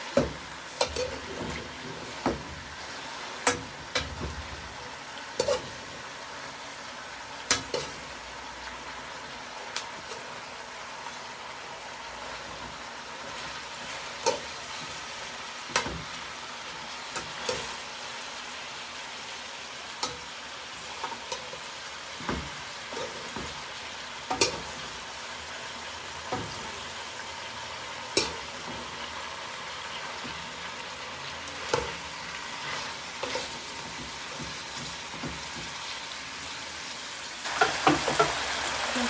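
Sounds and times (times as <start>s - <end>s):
vegetables sizzling in frying pan: 0.0s - 39.0s.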